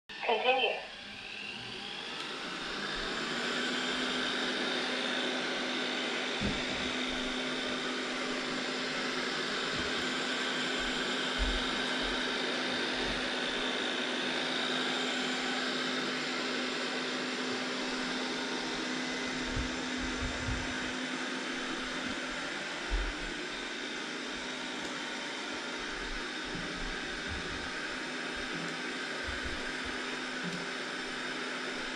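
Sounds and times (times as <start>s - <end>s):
robot vacuum cleaner whirring: 0.2s - 31.9s.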